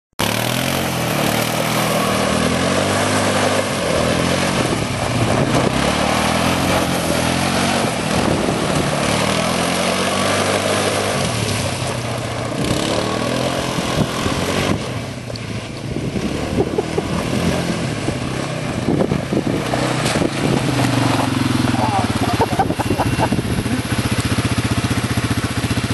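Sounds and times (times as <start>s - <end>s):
gravel crackling under tyres: 0.2s - 25.9s
quad bike engine revving: 0.2s - 25.9s.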